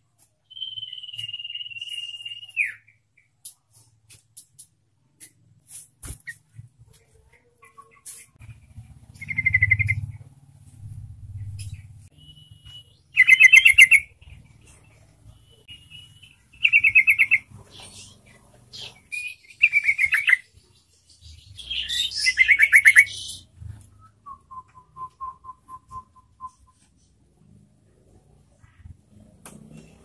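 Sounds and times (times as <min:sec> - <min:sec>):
bird chirping: 0:00.4 - 0:03.9, 0:06.0 - 0:27.3.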